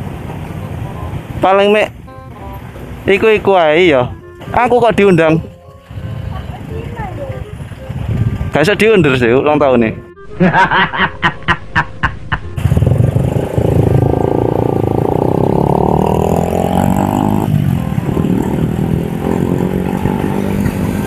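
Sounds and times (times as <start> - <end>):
motorcycle engine accelerating: 0.0 - 9.4, 12.4 - 21.0
wind and road noise: 0.0 - 10.2, 10.9 - 21.0.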